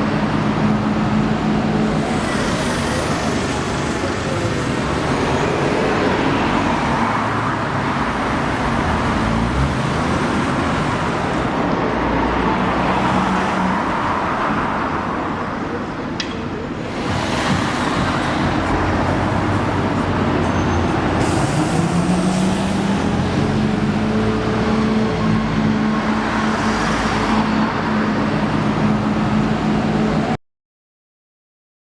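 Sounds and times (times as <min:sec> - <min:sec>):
passing motor vehicles: 0:00.0 - 0:30.4.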